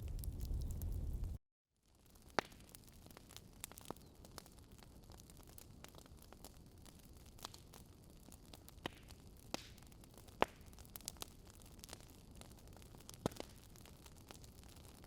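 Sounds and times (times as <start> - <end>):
burning wood crackling: 0.0 - 15.0.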